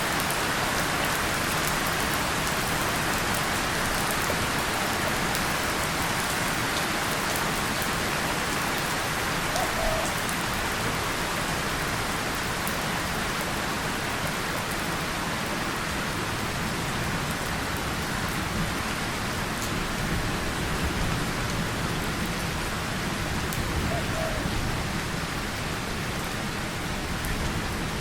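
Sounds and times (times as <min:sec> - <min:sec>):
rain on tin and leaves: 0:00.0 - 0:28.0.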